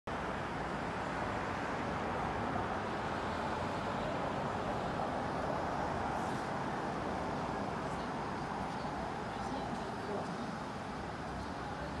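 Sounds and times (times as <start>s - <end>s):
distant city traffic: 0.1s - 12.0s.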